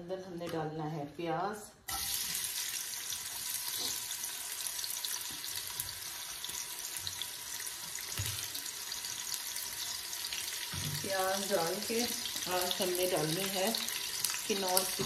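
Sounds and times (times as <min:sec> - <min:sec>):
onions sizzling in hot oil: 0:01.9 - 0:15.0.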